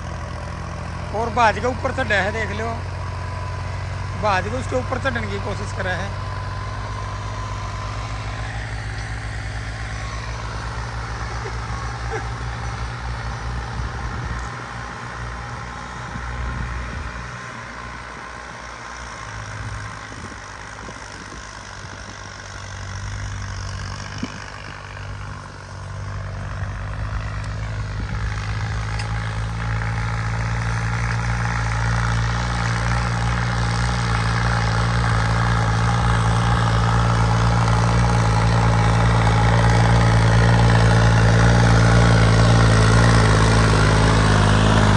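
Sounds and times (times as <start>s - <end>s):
tractor diesel engines under load: 0.0s - 44.9s.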